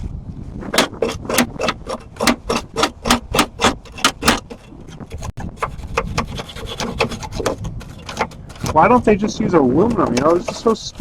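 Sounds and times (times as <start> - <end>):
wire brush scrubbing metal: 0.7 - 11.0.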